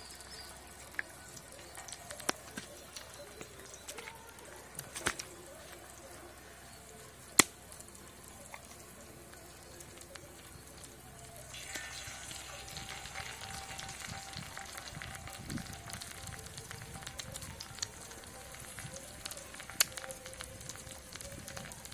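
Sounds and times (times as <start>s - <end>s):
eggs sizzling on a griddle: 0.0s - 21.9s.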